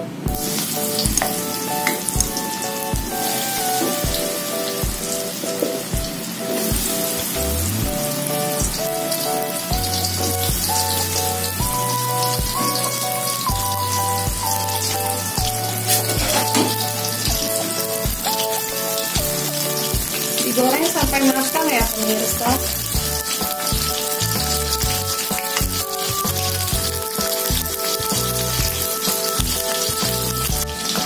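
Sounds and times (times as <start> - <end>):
background music with beat: 0.0 - 31.0
food deep-frying in oil: 0.3 - 31.0.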